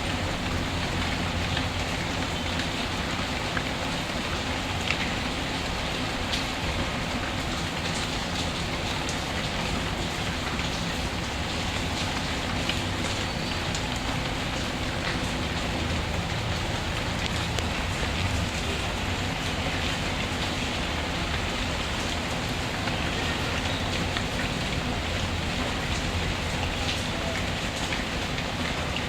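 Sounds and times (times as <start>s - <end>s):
steady rain patter: 0.0s - 29.0s.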